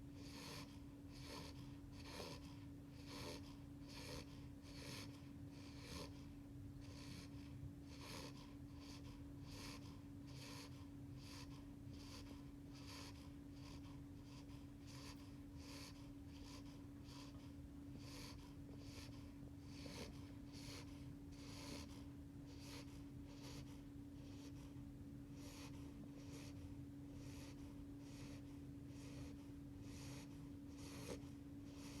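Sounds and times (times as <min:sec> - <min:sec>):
faint steady hum: 0:00.0 - 0:32.0
puppy snoring softly: 0:00.0 - 0:32.0.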